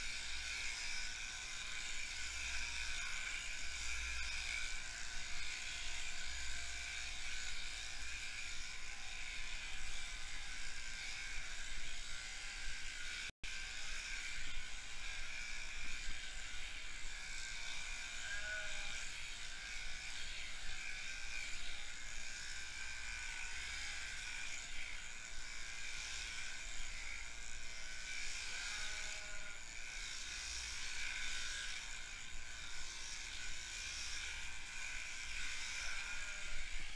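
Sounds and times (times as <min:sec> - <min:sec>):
electric shearing handpiece whirring: 0:00.0 - 0:36.9.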